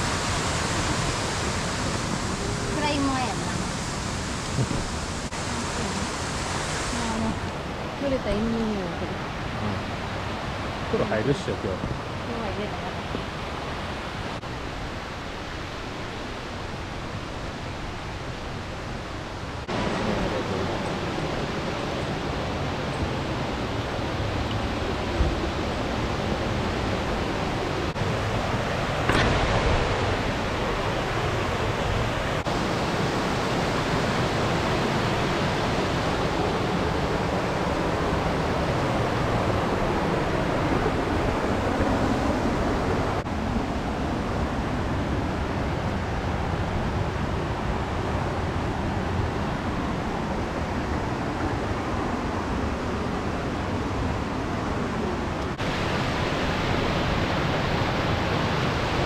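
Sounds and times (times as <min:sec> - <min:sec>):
rushing falling water: 0:00.0 - 0:59.0.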